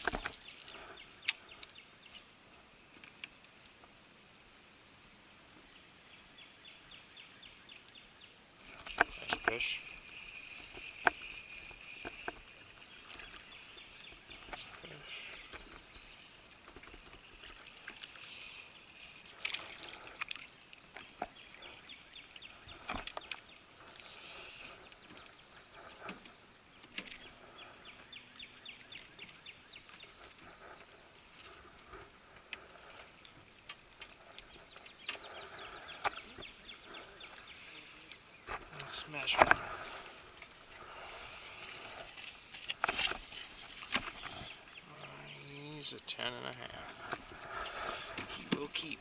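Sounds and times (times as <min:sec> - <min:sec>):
water dribbling: 0:08.6 - 0:49.0.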